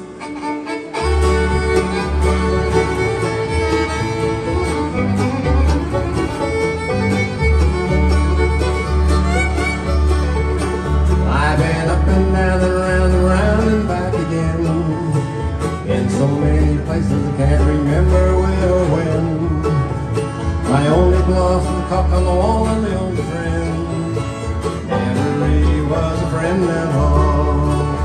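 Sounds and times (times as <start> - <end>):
acoustic bluegrass band playing: 0.0 - 28.0
pulsing bass line: 1.0 - 28.0.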